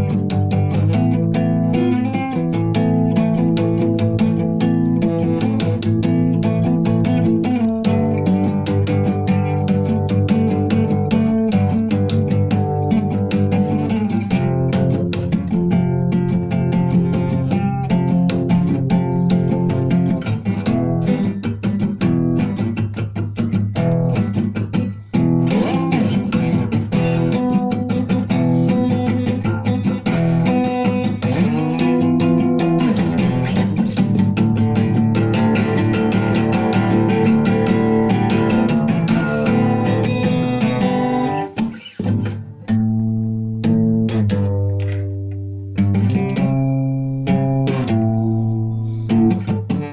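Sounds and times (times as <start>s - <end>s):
plucked guitar notes: 0.0s - 49.9s.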